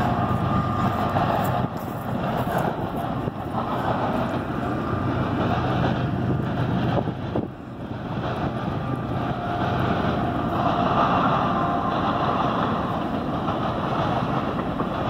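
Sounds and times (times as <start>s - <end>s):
freight train rumbling on rails: 0.0s - 15.0s
wind on microphone: 0.0s - 15.0s.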